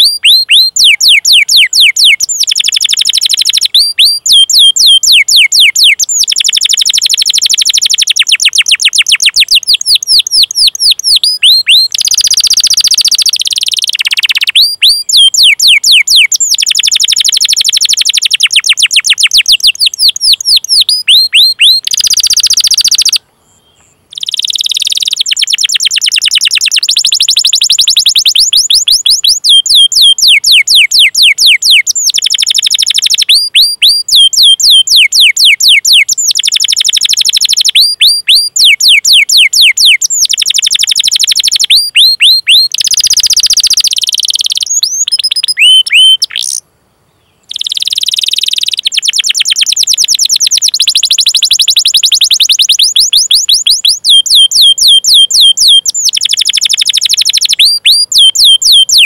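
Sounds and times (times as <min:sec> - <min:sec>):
canary singing: 0:00.0 - 0:46.6, 0:47.3 - 0:59.0.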